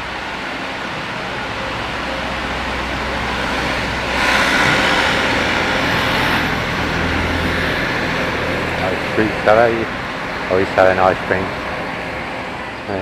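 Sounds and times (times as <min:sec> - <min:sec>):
low engine hum: 0:00.0 - 0:13.0
vehicle passing: 0:00.0 - 0:13.0.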